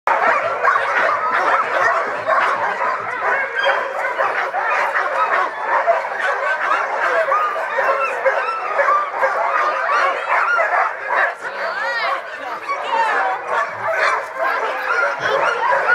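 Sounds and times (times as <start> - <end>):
sled dogs barking: 0.1 - 15.9.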